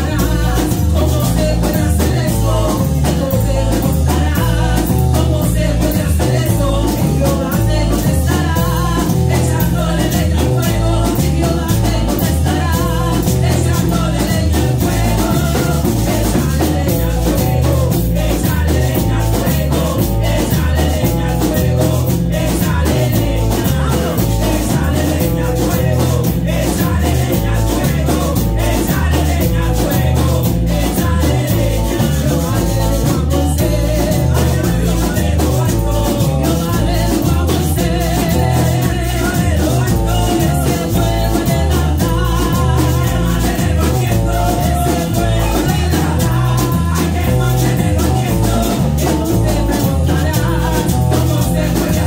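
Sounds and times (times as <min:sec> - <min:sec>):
drum kit beat: 0:00.0 - 0:52.0
electric guitar: 0:00.0 - 0:52.0.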